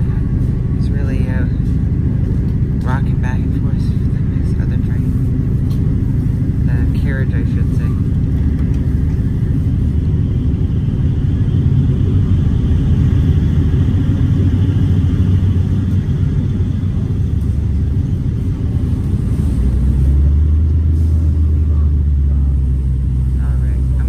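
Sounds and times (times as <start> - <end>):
deep hum: 0.0 - 24.0
train rumbling: 0.0 - 24.0.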